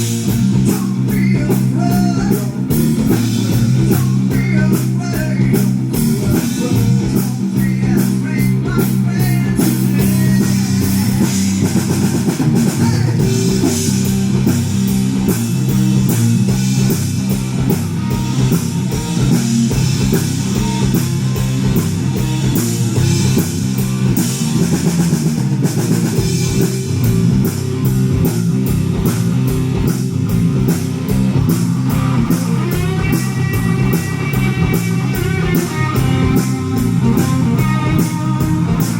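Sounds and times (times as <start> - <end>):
bass line: 0.0 - 38.9
distorted electric guitars: 0.0 - 38.9
drum kit beat: 0.0 - 38.9.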